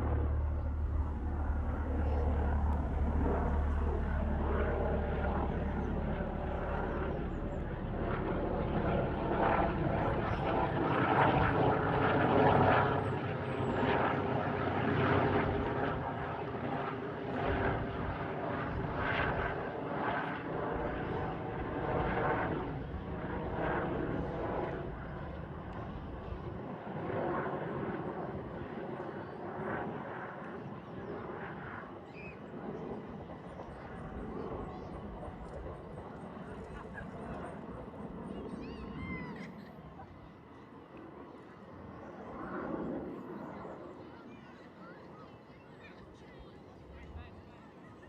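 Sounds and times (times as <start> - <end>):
helicopter flying overhead: 0.0 - 48.0.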